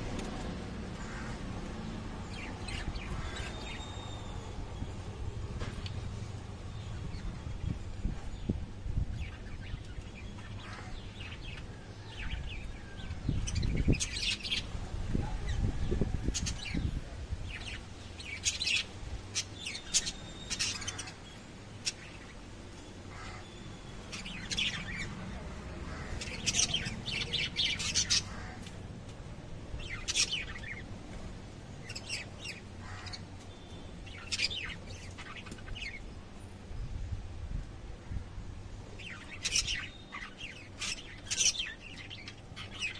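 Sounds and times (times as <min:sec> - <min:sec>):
lovebirds chirping: 0:00.0 - 0:42.9.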